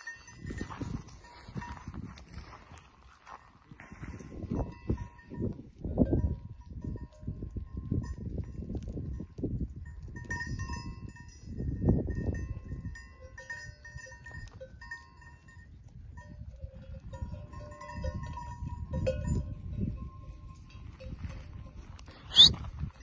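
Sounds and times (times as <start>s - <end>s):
neck bells clinking: 0.0s - 1.9s, 4.2s - 21.9s.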